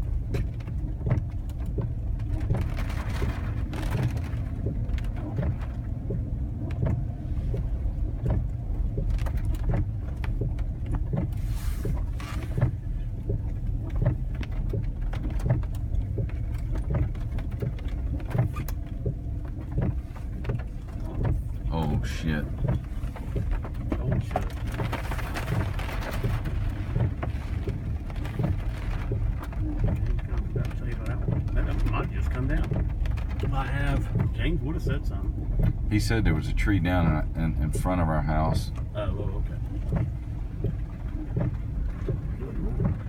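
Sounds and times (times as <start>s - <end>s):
car engine and tyres rumbling: 0.0s - 43.0s.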